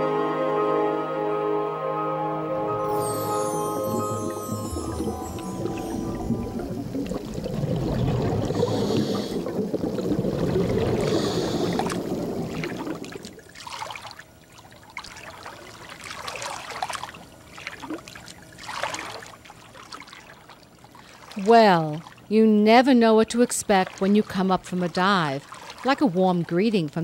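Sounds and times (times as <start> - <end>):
water splashing and sloshing: 2.9 - 27.0.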